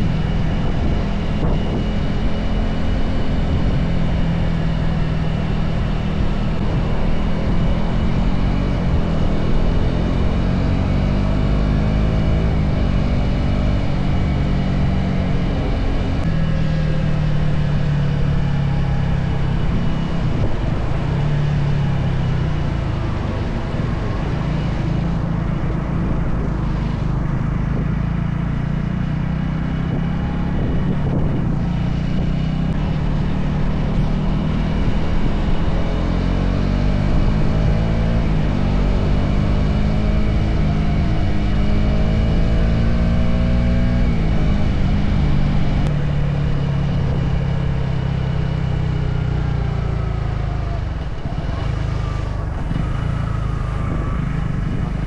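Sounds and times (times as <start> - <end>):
vehicle engine running: 0.0 - 55.0
wind and road noise: 0.0 - 55.0.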